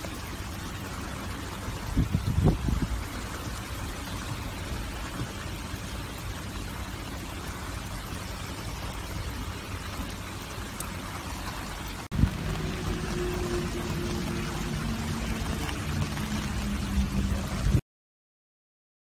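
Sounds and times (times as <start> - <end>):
low steady hum: 0.0 - 17.8
steady rain falling: 0.0 - 17.8.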